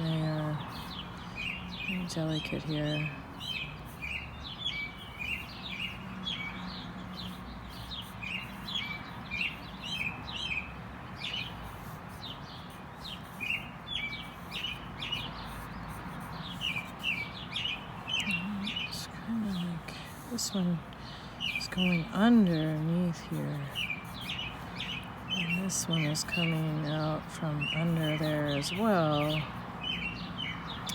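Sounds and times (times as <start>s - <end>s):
songbirds chirping and singing: 0.0s - 30.9s.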